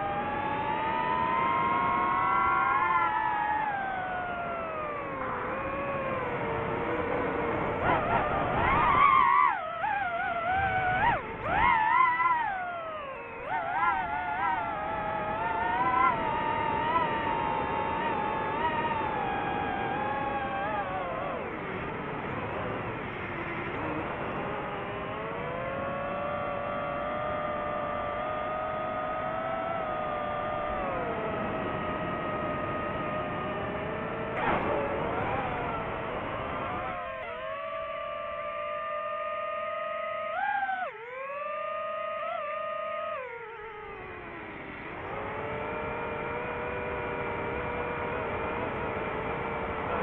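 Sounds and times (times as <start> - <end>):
drone propellers whining: 0.0 - 50.0.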